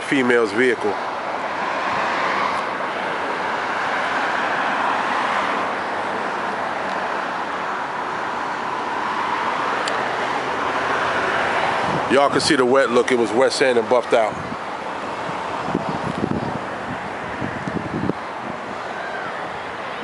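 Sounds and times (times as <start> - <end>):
road traffic hiss: 0.0 - 20.0.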